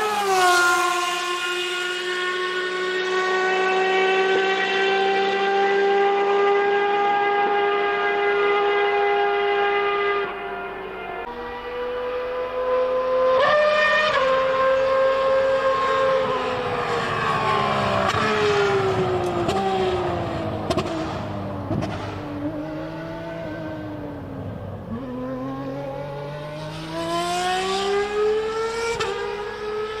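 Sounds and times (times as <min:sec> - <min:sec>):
racing car engine revving: 0:00.0 - 0:30.0.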